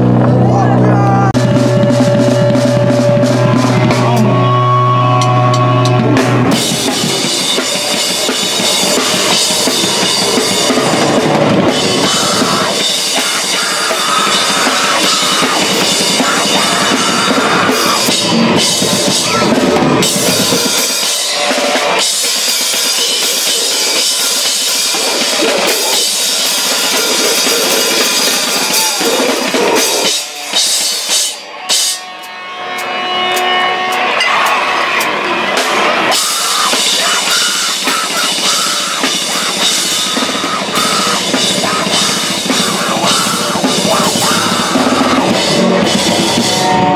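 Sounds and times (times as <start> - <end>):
amplified guitar: 0.0 - 46.9
drum kit with crashing cymbals: 1.3 - 46.9.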